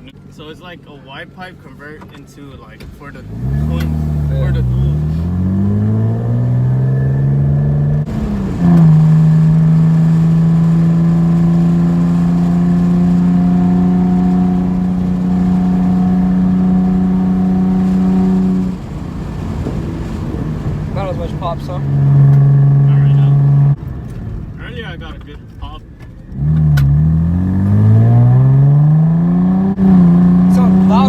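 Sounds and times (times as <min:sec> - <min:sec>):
car exhaust accelerating: 0:02.7 - 0:31.0.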